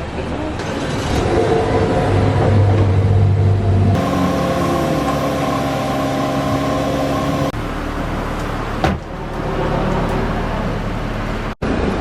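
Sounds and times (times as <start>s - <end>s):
car engine humming: 1.2s - 11.9s.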